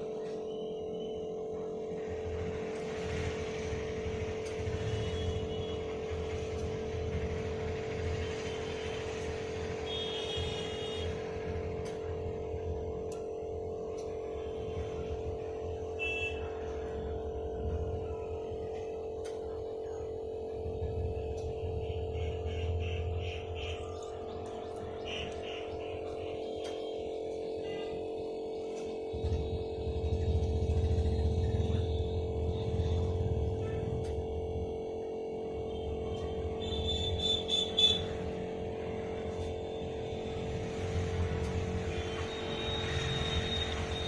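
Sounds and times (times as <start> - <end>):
steady mid-pitched hum: 0.0 - 44.0.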